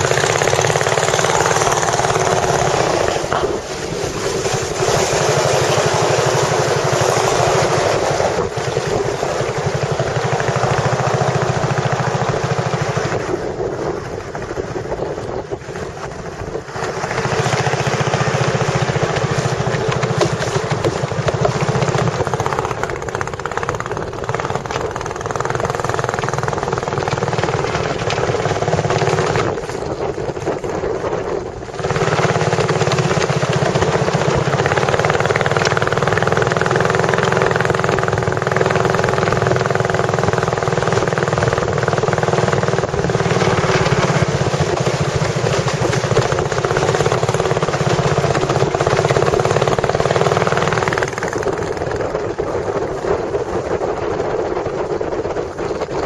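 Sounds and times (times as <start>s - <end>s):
motorboat engine running: 0.0s - 56.0s
water noise: 0.0s - 56.0s
wind noise: 0.0s - 56.0s.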